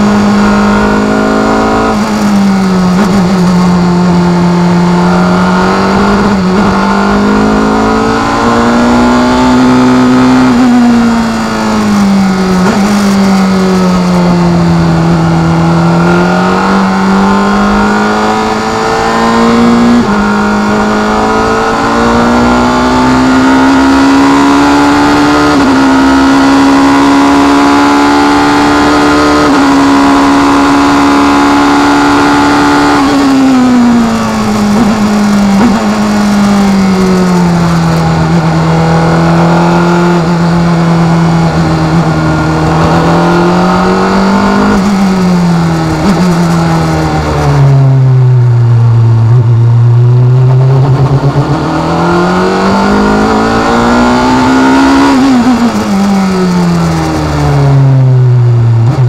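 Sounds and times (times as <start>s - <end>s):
racing car engine at full throttle: 0.0s - 59.0s.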